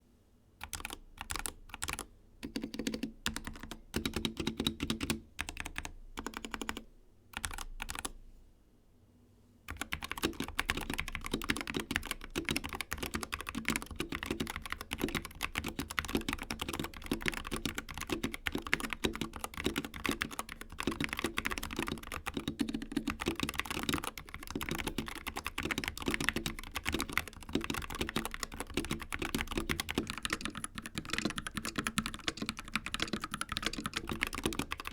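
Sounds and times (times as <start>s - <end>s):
keyboard typing: 0.6s - 8.2s, 9.7s - 34.9s.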